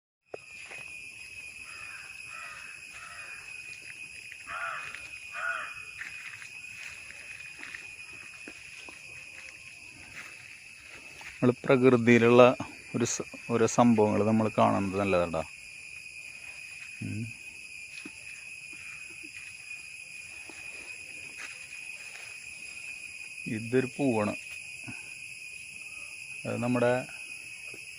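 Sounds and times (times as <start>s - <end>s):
high-pitched insect drone: 0.3s - 27.9s.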